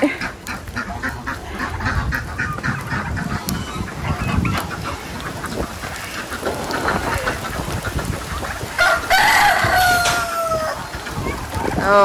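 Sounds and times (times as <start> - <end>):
poultry calling: 0.0 - 12.0
wind rumble on microphone: 0.0 - 12.0.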